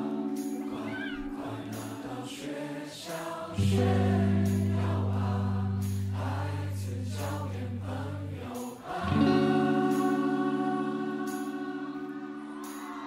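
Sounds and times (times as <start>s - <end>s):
electric guitar chords: 0.0s - 2.2s, 3.5s - 13.0s.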